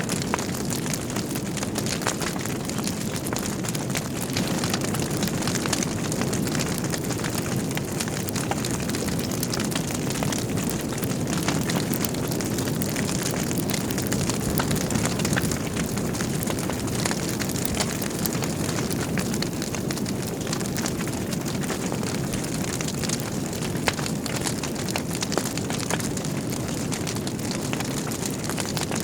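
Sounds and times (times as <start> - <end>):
fire flames rumbling: 0.0 - 29.0
logs crackling and popping: 0.0 - 29.0.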